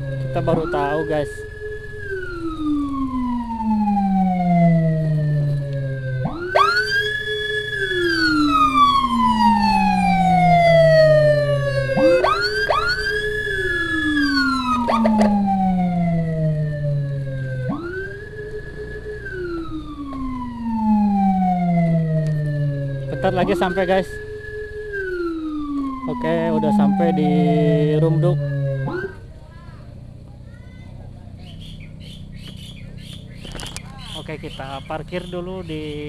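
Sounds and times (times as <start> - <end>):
emergency sirens wailing: 0.0 - 29.3, 31.2 - 36.0
motorcycle and road noise: 0.0 - 36.0.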